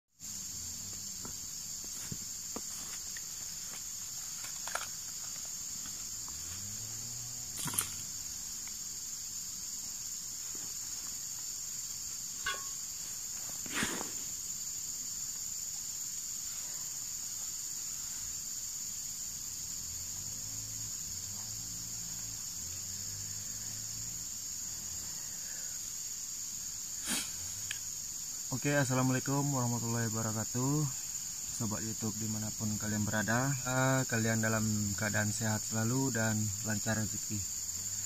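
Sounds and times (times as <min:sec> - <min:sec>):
insects droning: 0:00.1 - 0:38.0.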